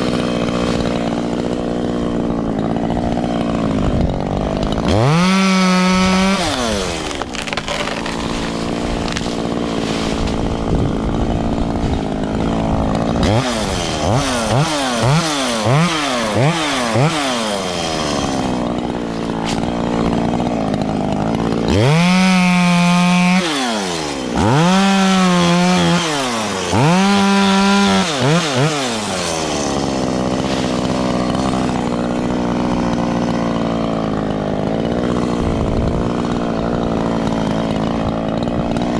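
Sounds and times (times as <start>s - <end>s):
chainsaw engine idling and revving: 0.0s - 38.9s.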